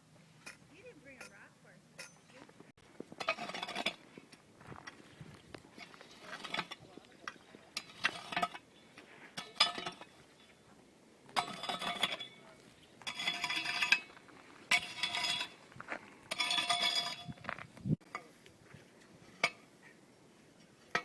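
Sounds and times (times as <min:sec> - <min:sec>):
metal tools scraping rocky soil: 0:00.2 - 0:21.0.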